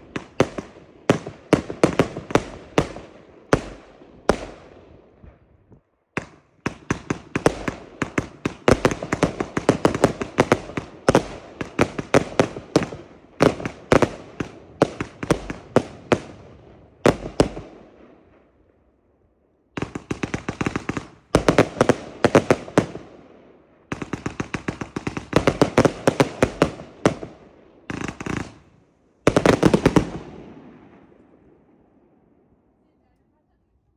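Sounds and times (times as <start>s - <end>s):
fireworks firing rapid volleys: 0.0s - 4.8s, 6.1s - 18.0s, 19.8s - 31.1s.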